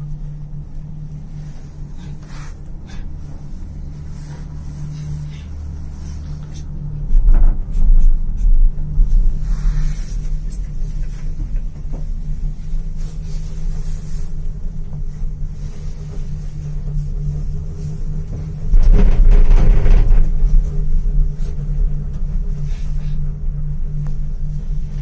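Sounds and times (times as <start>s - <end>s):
gondola cabin hum and rumble: 0.0s - 25.0s.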